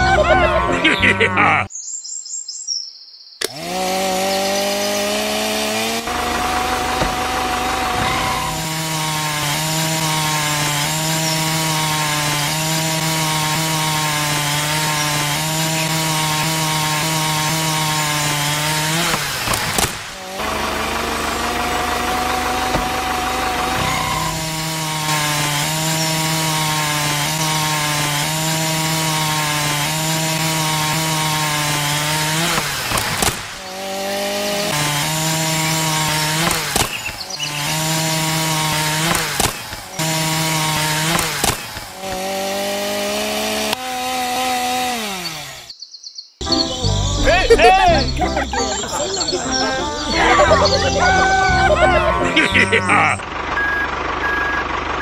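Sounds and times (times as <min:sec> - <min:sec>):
circular saw cutting wood: 0:03.4 - 0:45.7, 0:46.4 - 0:53.2.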